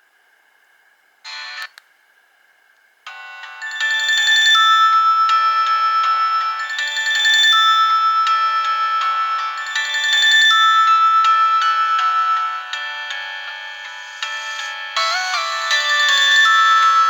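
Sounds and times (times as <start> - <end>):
electronic phone ringtone melody: 3.1 - 17.0.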